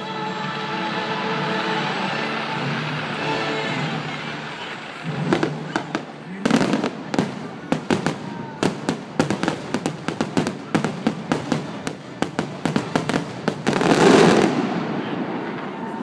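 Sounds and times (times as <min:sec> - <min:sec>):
fireworks bangs and crackles: 0:02.0 - 0:16.0.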